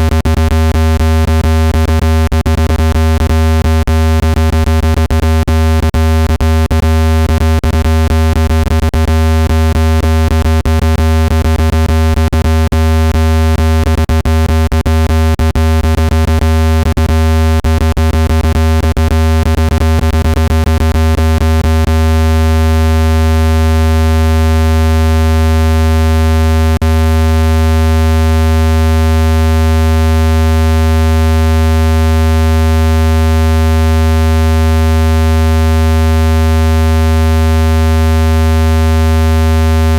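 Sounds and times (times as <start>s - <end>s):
low buzzing tone: 0.0s - 39.9s.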